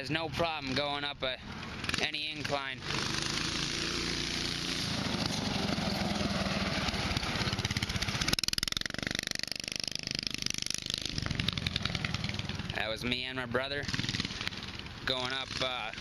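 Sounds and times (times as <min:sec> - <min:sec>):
go-kart engine running: 0:00.3 - 0:16.0.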